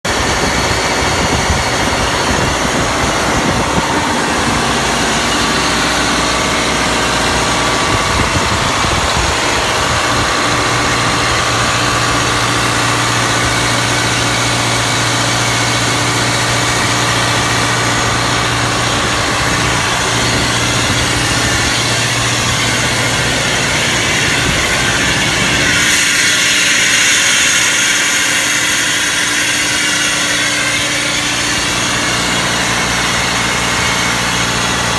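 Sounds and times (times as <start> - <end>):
diesel engine rumbling: 0.0 - 34.9.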